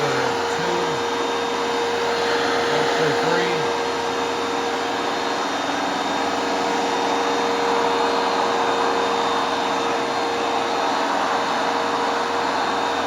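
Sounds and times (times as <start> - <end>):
carpet cleaner motor humming: 0.0 - 13.0.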